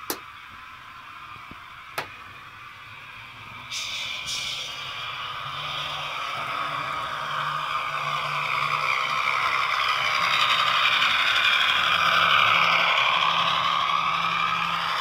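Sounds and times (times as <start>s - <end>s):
diesel engine through small speaker: 2.8s - 15.0s.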